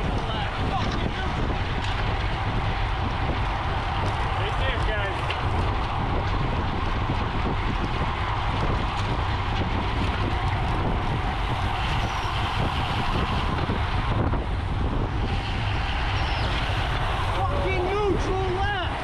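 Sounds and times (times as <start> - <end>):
low road rumble: 0.0 - 19.0
wind rushing over microphone: 0.0 - 19.0.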